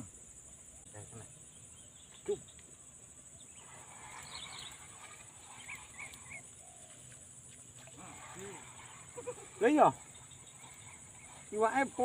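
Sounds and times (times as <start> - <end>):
high-pitched insect drone: 0.0 - 12.0
small bird chirping: 0.0 - 12.0.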